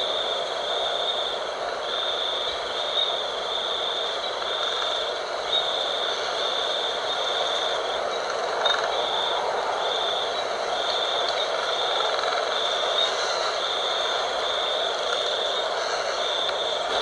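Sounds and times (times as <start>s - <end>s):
night wind rushing: 0.0s - 17.0s.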